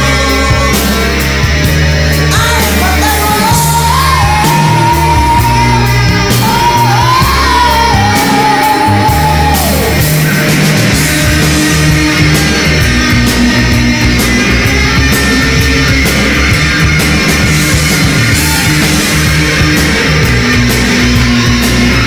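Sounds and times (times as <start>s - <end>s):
high held lead guitar note: 0.0s - 22.0s
rock band playing: 0.0s - 22.0s.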